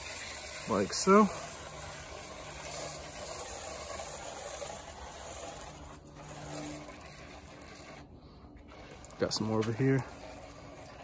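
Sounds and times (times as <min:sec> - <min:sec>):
chemical sprayer hissing: 0:00.0 - 0:08.1, 0:08.7 - 0:11.0.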